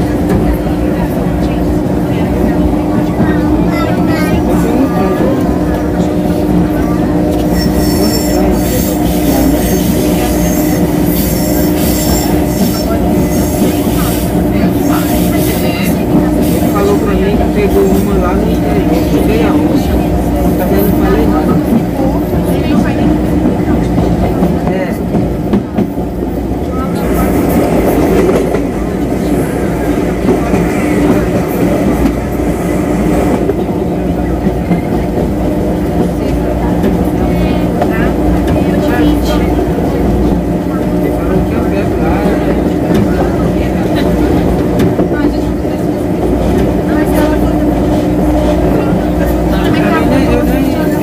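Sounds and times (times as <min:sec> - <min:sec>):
electric train running noise: 0:00.0 - 0:51.0.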